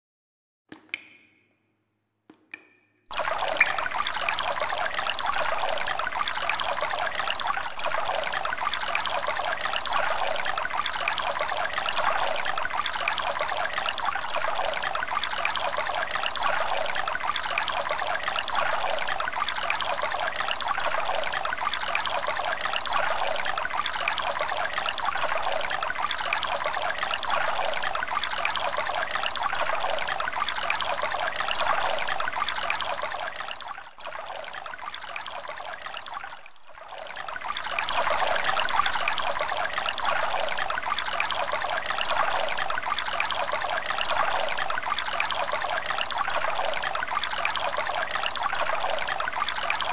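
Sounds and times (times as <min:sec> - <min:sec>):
water pouring in a stream: 0:03.1 - 0:49.9.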